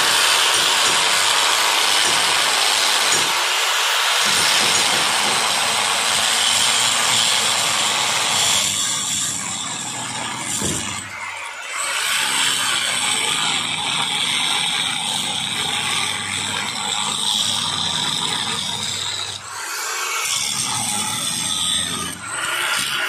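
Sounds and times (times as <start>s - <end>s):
angle grinder cutting metal: 0.0s - 23.0s.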